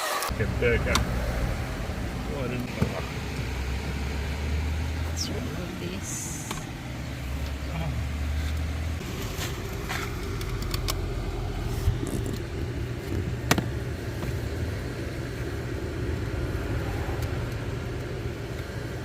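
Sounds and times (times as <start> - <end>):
low engine-like drone: 0.3 - 19.0.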